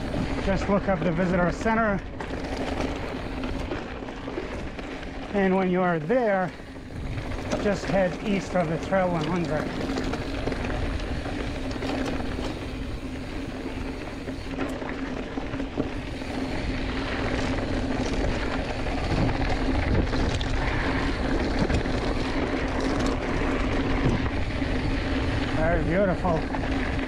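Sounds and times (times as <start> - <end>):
bike rattling over stones: 0.0 - 27.0
bike tyres rolling over dirt: 0.0 - 27.0
steady hum: 0.0 - 27.0.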